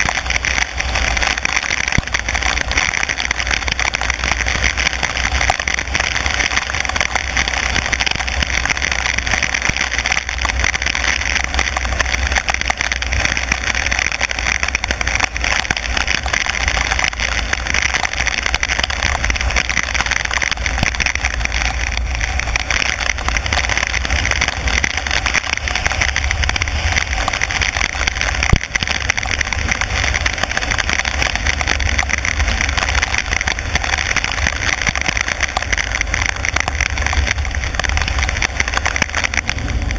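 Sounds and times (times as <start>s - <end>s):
engine and road rumble: 0.0s - 39.9s
rain: 0.0s - 39.9s
wet tyres hissing: 0.0s - 39.9s.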